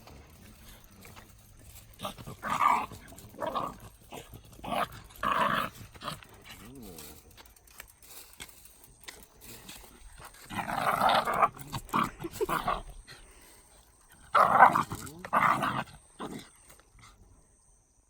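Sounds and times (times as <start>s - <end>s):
dogs growling while play-fighting: 0.0s - 7.4s, 9.8s - 17.2s.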